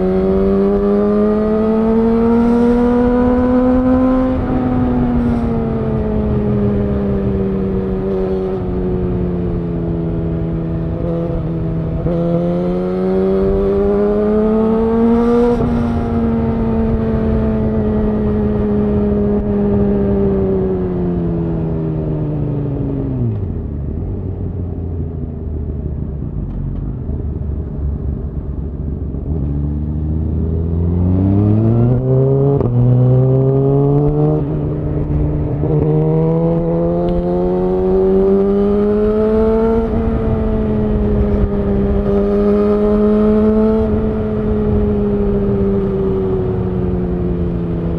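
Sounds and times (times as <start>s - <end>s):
motorcycle engine revving: 0.0s - 21.4s, 29.2s - 47.9s.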